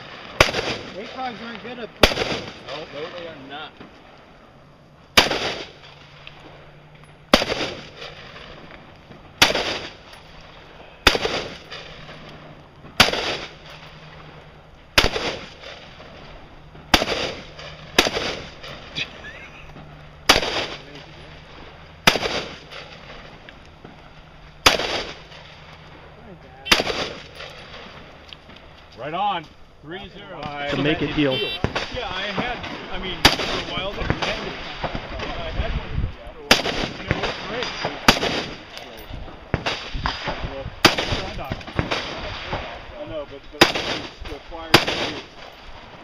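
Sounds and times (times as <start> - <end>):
rifle shots with echo: 0.0 - 3.4, 5.1 - 6.6, 7.2 - 19.0, 20.1 - 25.6, 26.7 - 28.2, 30.8 - 35.5, 36.4 - 45.6.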